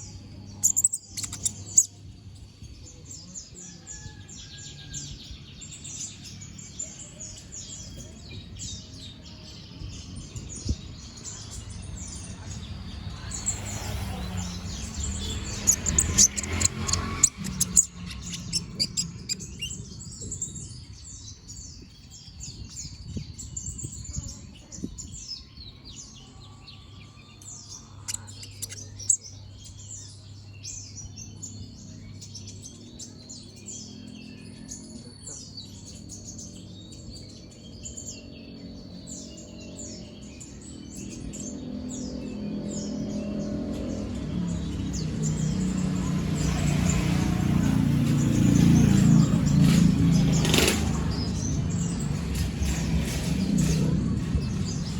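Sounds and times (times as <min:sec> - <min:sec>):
bird singing high chirps and trills: 0:00.0 - 0:54.9.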